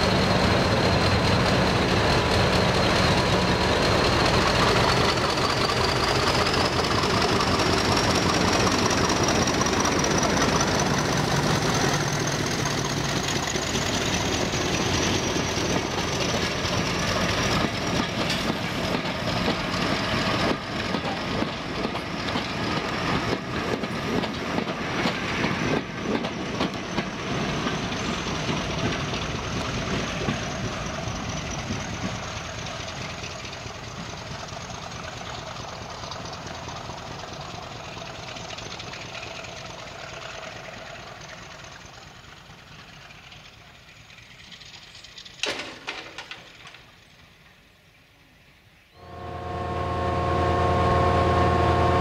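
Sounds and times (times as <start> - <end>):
train wheels clattering: 0.0 - 47.6
diesel locomotive engine: 0.0 - 52.0.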